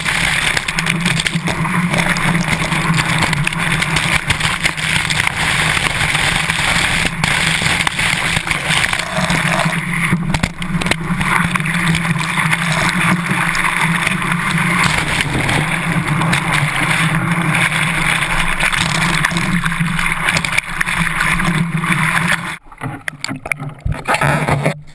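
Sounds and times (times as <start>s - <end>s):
water rushing: 0.0s - 24.6s
water splashes: 0.0s - 24.9s.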